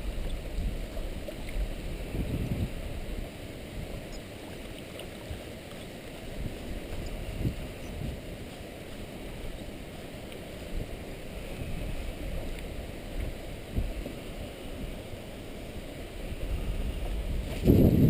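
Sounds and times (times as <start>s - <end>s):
wind rumble on microphone: 0.0s - 4.3s, 5.2s - 18.0s
water sloshing around kayak: 0.0s - 18.0s.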